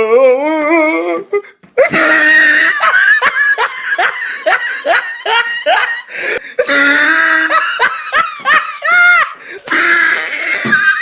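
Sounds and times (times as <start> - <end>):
person laughing hard: 1.8 - 11.0.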